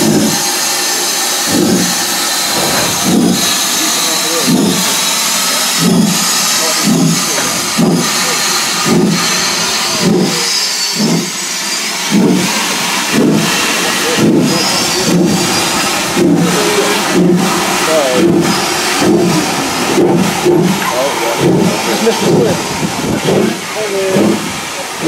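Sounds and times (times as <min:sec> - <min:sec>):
locomotive exhaust beats: 0:00.0 - 0:25.0
steam hissing: 0:00.0 - 0:25.0.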